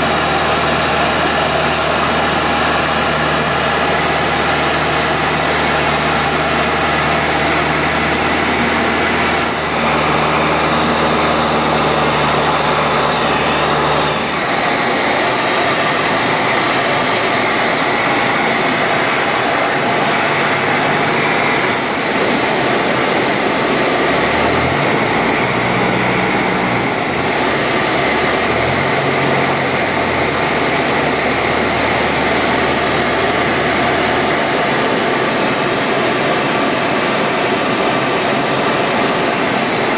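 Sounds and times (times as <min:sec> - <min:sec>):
airplane engine and propeller: 0:00.0 - 0:39.9
loud steady cockpit rush: 0:00.0 - 0:39.9.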